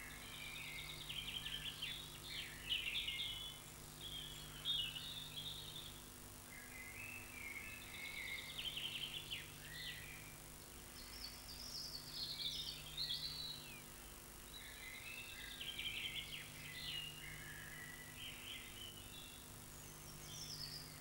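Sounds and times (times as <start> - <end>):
faint steady hum: 0.0 - 21.0
songbird singing: 0.0 - 21.0.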